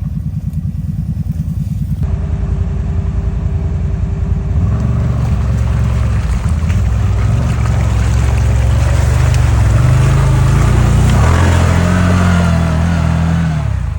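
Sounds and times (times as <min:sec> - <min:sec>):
car engine running: 0:00.0 - 0:13.9.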